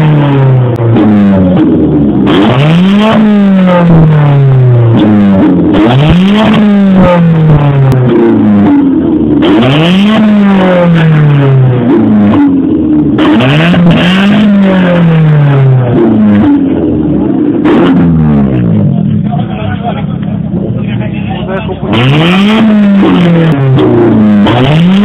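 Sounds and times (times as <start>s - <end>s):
car engine revving hard: 0.0s - 19.6s, 21.5s - 25.0s.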